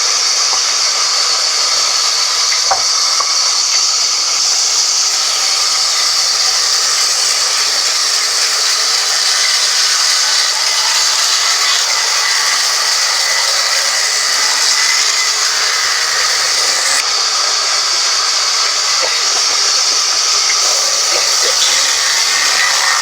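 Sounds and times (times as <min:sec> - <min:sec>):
band sawmill running: 0:00.0 - 0:23.0.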